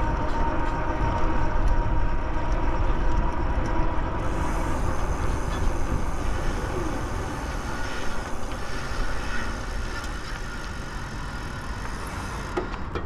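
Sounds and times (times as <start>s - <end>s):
wind on microphone: 0.0s - 10.8s
thin steady whine: 0.0s - 13.0s.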